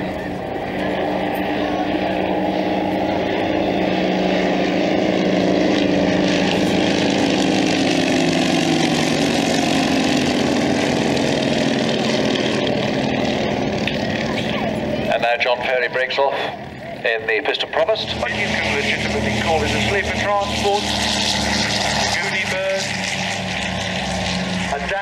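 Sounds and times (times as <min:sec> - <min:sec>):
propeller planes flying past: 0:00.0 - 0:25.0.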